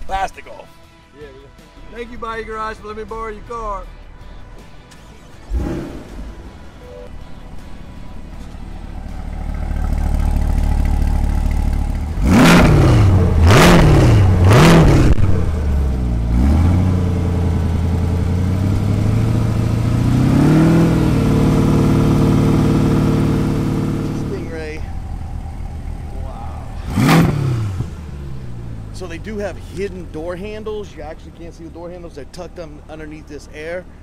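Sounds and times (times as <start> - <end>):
car engine revving and idling: 4.9 - 34.0.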